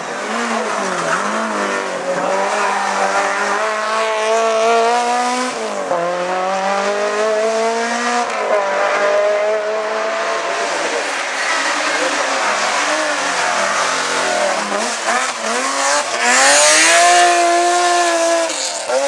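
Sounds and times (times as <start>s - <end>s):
rally car engine accelerating: 0.0s - 19.0s.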